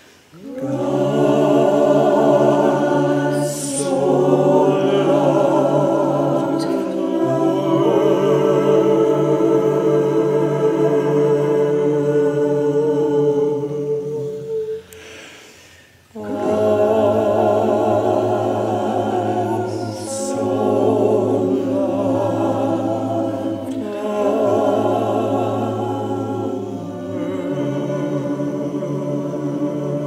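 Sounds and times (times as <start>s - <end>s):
choir singing: 0.0s - 15.1s, 16.1s - 30.0s.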